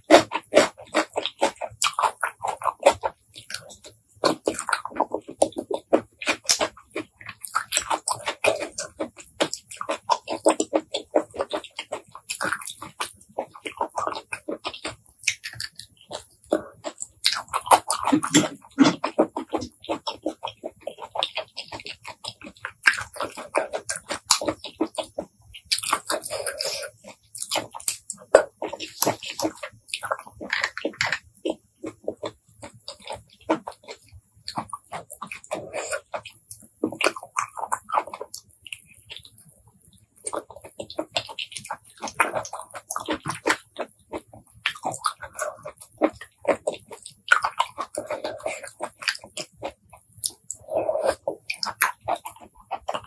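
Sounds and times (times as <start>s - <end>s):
wet chewing sounds: 0.0s - 53.0s.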